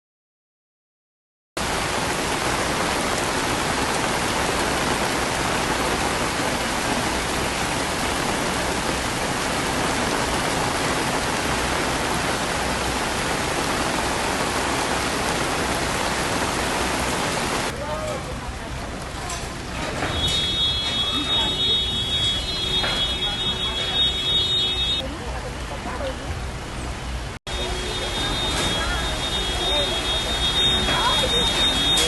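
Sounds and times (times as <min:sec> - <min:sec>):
steady rain hiss: 0:01.6 - 0:26.6, 0:27.5 - 0:32.0.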